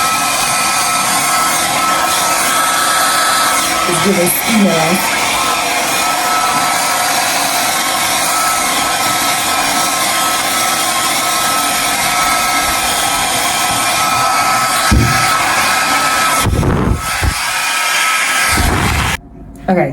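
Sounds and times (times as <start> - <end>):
hair dryer blowing: 0.0 - 19.2.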